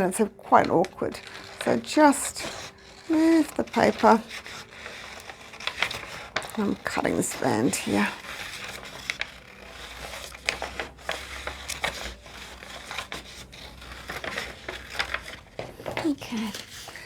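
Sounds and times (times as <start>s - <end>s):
paper rustling: 0.0s - 17.0s
scissors snipping paper: 0.0s - 17.0s.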